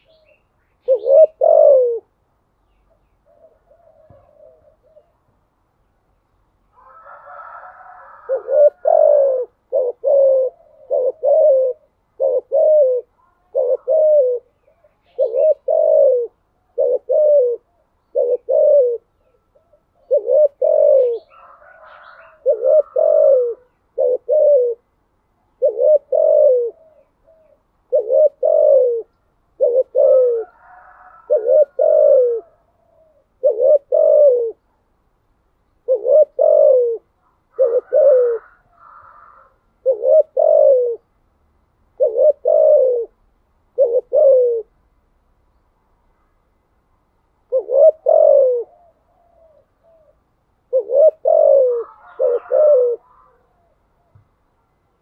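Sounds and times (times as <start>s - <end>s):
dove cooing: 0.0s - 2.2s, 2.8s - 5.4s, 6.7s - 34.8s, 35.8s - 41.1s, 41.9s - 44.8s, 47.4s - 54.4s.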